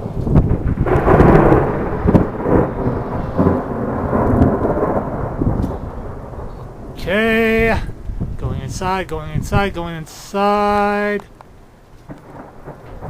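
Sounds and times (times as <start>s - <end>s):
rain falling: 0.0s - 13.0s
thunder rumbling: 0.0s - 13.0s.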